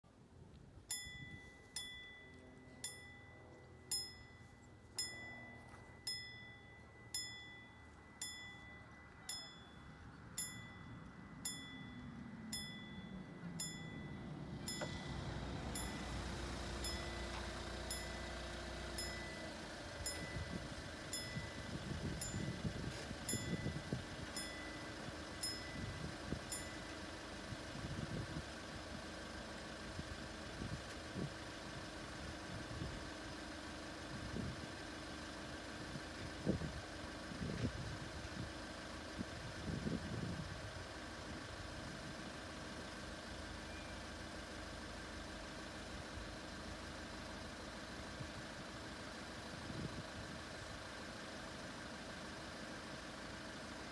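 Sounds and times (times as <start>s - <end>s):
vehicle engine running: 0.1s - 53.9s
level crossing warning bell: 0.9s - 34.1s, 40.5s - 53.9s.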